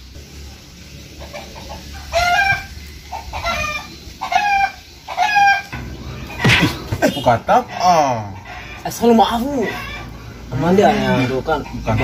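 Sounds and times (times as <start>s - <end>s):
chicken calling: 1.2s - 12.0s.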